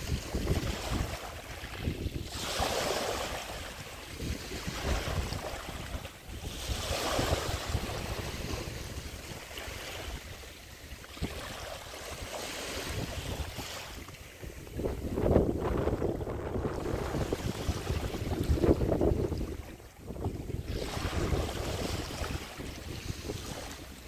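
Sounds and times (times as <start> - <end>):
waves washing up shore: 0.0 - 24.0
wind buffeting microphone: 0.0 - 24.0.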